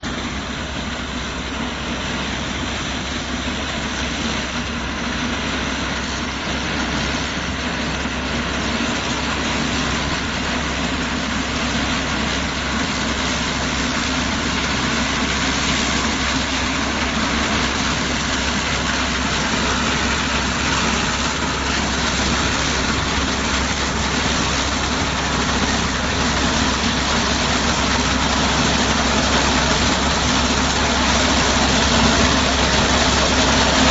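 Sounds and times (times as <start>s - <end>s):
dense mechanical noise: 0.0s - 33.9s
small tractor engine running: 0.0s - 33.9s.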